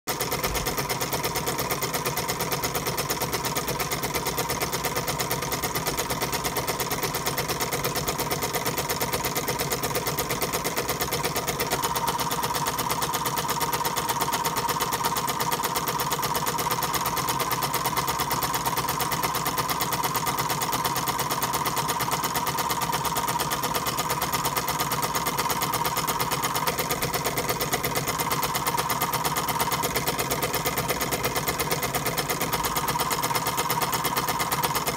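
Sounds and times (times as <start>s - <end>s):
steam engine chuffing: 0.1s - 34.9s.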